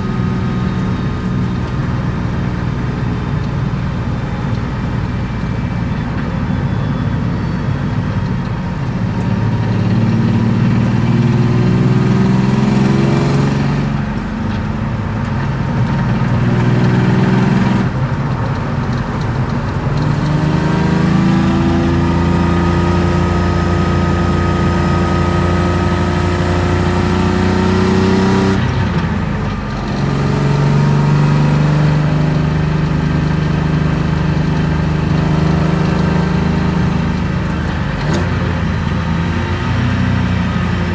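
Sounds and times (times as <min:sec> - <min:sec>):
car engine accelerating: 0:00.0 - 0:40.9.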